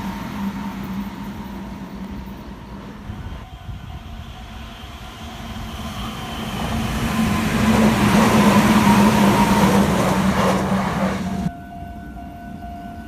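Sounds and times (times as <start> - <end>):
train wheel and running noise: 0.0 - 13.0.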